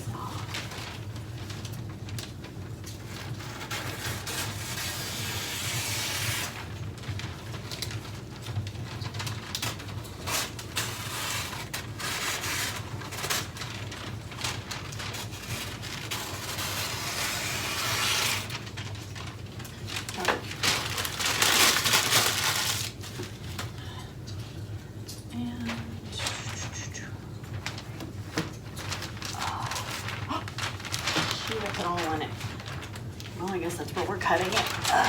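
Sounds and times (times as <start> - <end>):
wrapping paper rustling and crinkling: 0.0 - 35.0.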